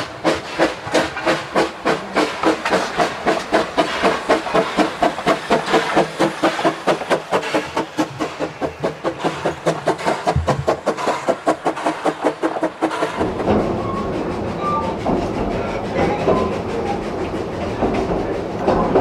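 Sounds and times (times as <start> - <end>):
carriage rumbling on rails: 0.0 - 19.0
steam locomotive chuffing: 0.0 - 19.0.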